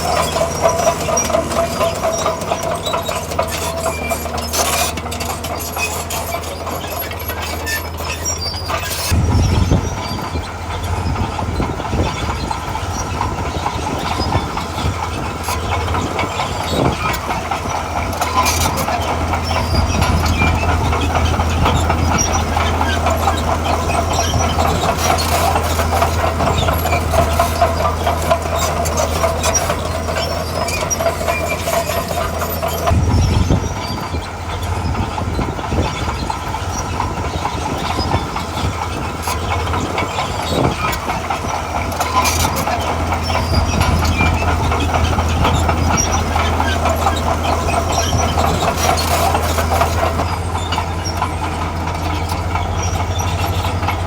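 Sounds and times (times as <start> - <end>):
diesel engine humming: 0.0 - 54.0
steel tracks clanking: 0.0 - 54.0.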